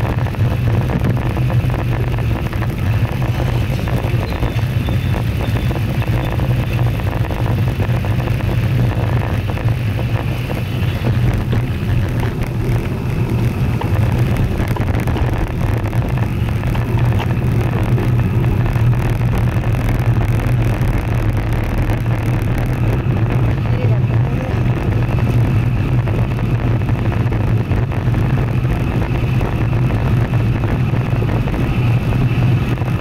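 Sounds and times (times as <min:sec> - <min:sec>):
tyre and road noise: 0:00.0 - 0:33.0
wind buffeting microphone: 0:00.0 - 0:33.0.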